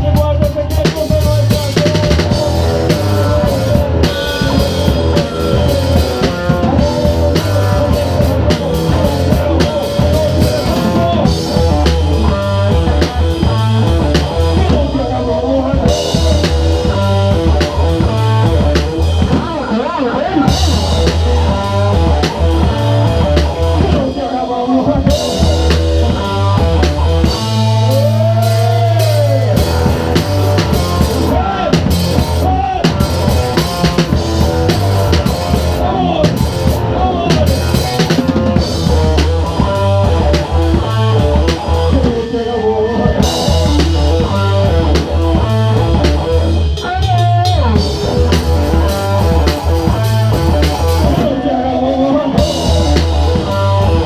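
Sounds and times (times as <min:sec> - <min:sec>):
drums and cymbals: 0:00.0 - 0:51.5, 0:52.2 - 0:54.0
live rock band playing: 0:00.0 - 0:54.0.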